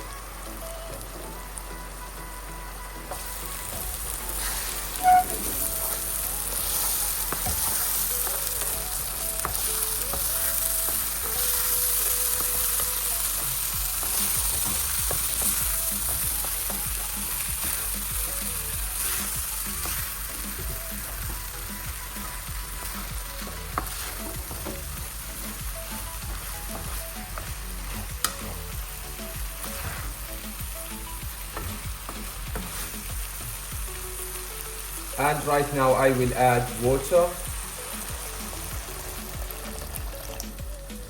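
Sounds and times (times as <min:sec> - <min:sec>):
grain and onions sizzling in pot: 0:00.0 - 0:41.0.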